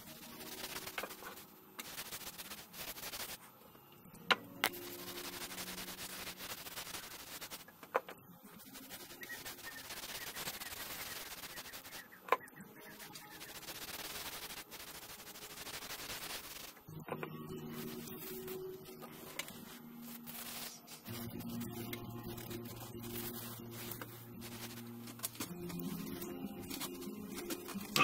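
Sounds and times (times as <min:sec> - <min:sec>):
paper towel rubbing wood hiss: 0:00.0 - 0:03.5, 0:04.6 - 0:07.8, 0:08.5 - 0:12.2, 0:12.8 - 0:28.0.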